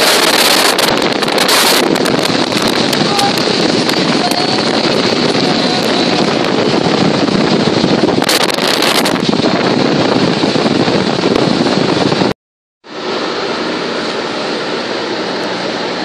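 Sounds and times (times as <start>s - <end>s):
car road noise: 0.0s - 16.0s
wind on microphone: 0.0s - 16.0s.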